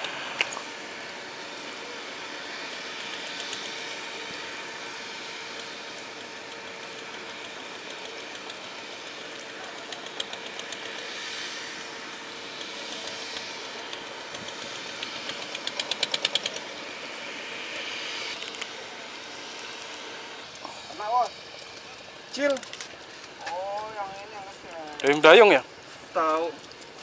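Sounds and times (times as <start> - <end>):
outdoor hiss: 0.0 - 27.0.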